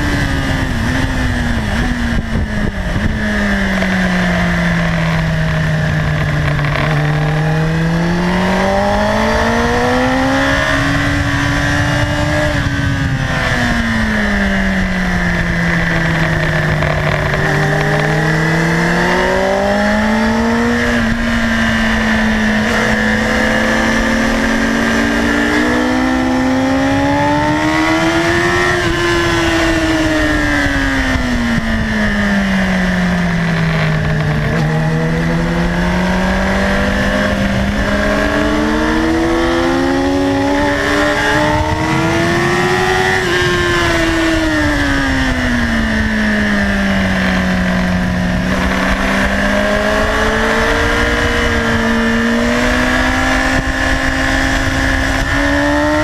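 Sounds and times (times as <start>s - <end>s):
motorcycle engine revving: 0.0s - 56.0s
wind rush on microphone: 0.0s - 56.0s.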